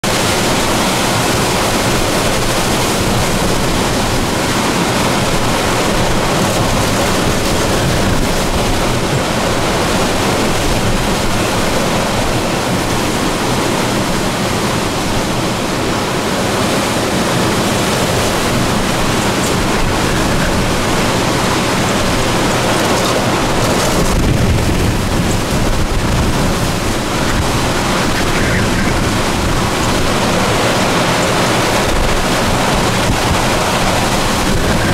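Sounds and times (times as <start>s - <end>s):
strong wind blowing: 0.0s - 34.9s
wind buffeting microphone: 0.0s - 34.9s.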